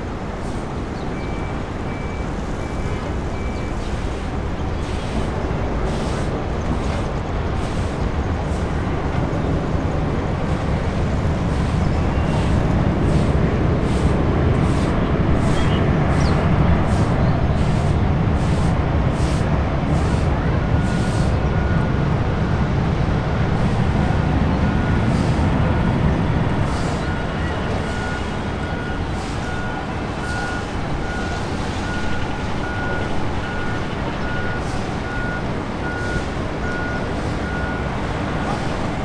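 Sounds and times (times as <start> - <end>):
jet engines rumbling: 0.0 - 39.0.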